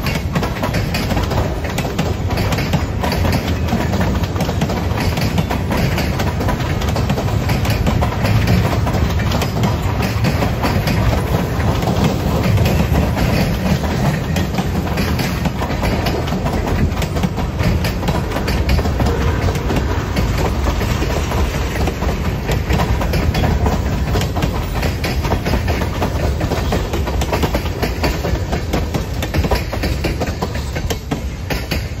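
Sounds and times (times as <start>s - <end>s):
train wheels rumbling on rails: 0.0s - 32.0s
wheels clicking over rail joints: 0.0s - 32.0s.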